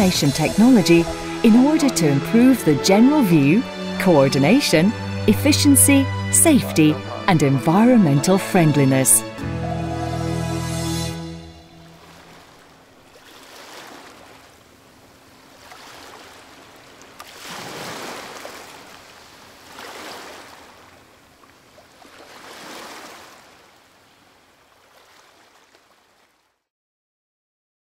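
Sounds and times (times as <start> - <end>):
sea waves washing: 0.0 - 26.4.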